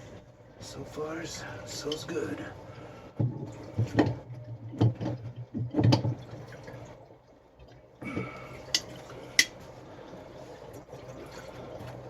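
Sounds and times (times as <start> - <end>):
water running into a tank: 0.0 - 12.0.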